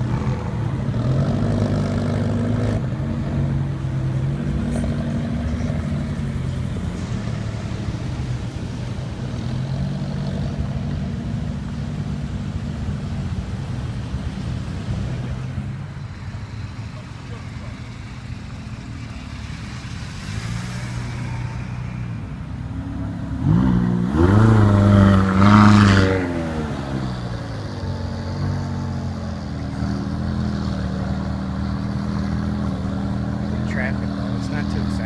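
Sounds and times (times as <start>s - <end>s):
car engine running at low revs: 0.0s - 35.0s.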